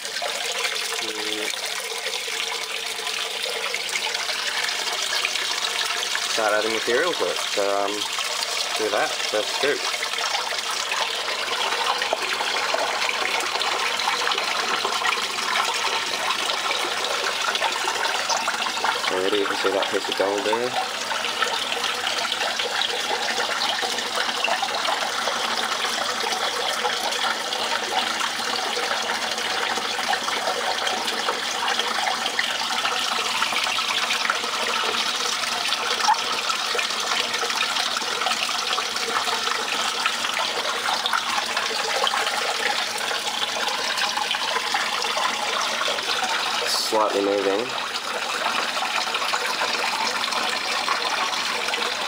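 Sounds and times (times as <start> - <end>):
water trickling over tray: 0.0 - 52.0.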